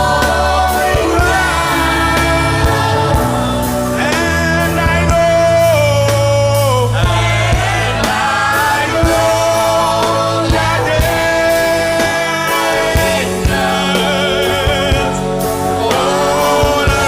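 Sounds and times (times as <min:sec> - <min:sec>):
gospel singers holding notes: 0:00.0 - 0:17.0
instrumental backing: 0:00.0 - 0:17.0.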